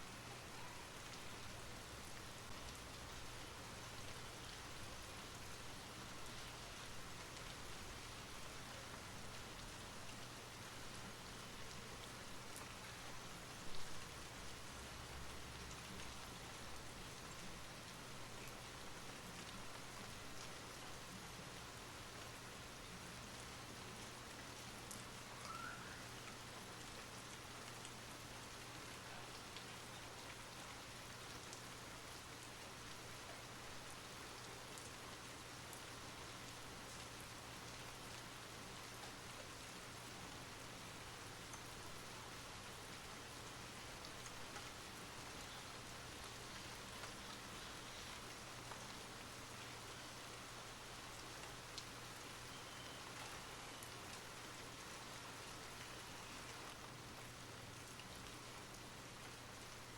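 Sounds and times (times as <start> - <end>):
raindrops ticking on a surface: 0.0 - 59.9
steady rain falling: 0.0 - 59.9.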